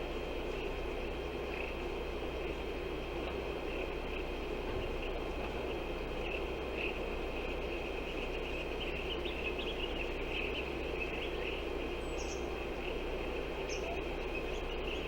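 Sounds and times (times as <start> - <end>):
noisy hiss: 0.0 - 15.0
high chirps of birds or insects: 0.9 - 2.6, 3.4 - 15.0.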